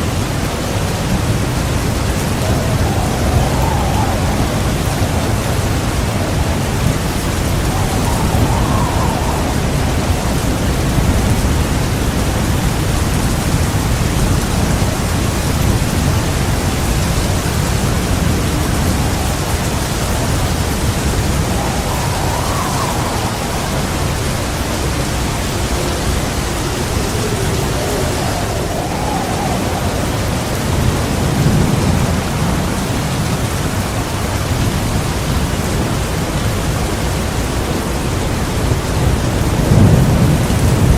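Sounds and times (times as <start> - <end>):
heavy rain falling: 0.0 - 40.9
low rolling thunder: 0.0 - 40.9.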